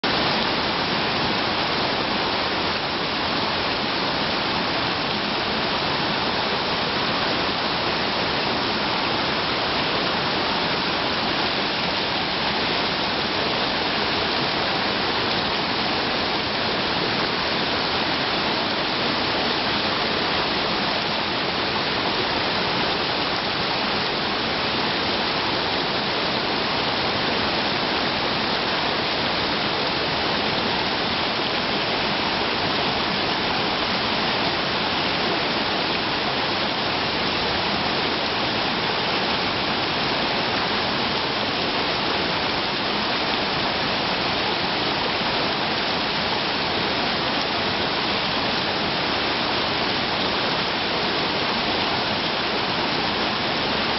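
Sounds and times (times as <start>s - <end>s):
mountain stream flowing: 0.0s - 53.9s.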